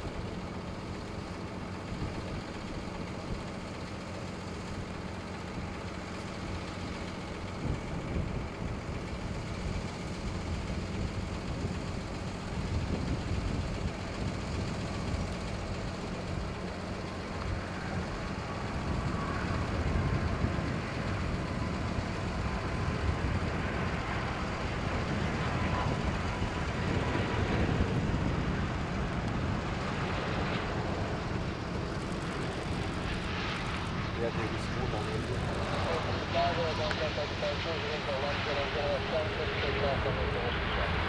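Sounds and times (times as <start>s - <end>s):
jet airliner roar with whine: 0.0s - 41.0s.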